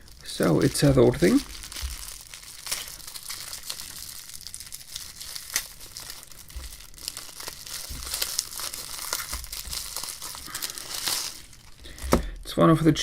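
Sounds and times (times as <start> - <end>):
packaging crinkling and rustling: 0.0 - 12.5.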